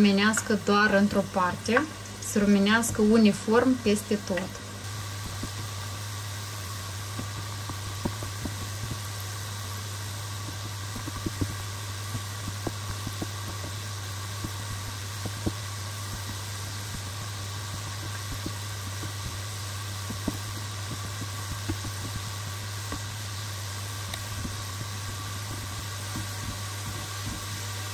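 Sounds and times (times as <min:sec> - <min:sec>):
oil sizzling while deep-frying: 0:00.0 - 0:27.9
steady low hum: 0:00.0 - 0:27.9.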